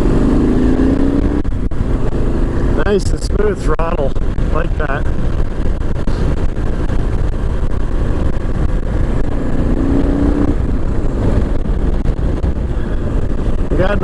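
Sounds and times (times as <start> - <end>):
motorcycle engine under throttle: 0.0 - 14.0.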